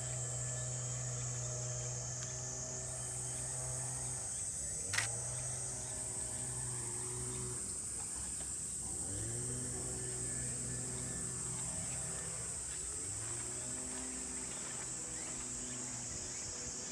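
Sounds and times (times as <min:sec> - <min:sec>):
low hum: 0:00.0 - 0:16.9.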